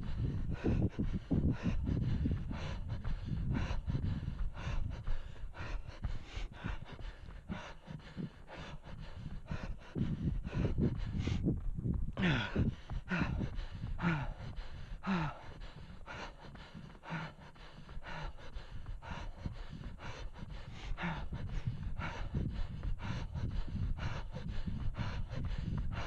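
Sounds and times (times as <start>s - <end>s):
runner breathing hard: 0.0s - 26.0s
running footsteps on forest floor: 0.0s - 26.0s.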